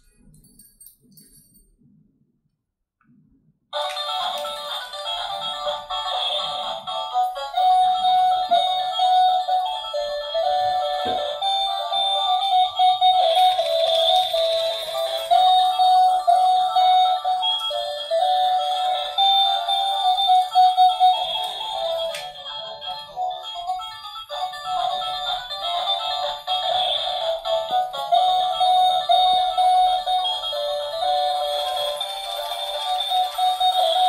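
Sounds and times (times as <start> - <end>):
tinny electronic christmas tune: 3.8 - 34.0.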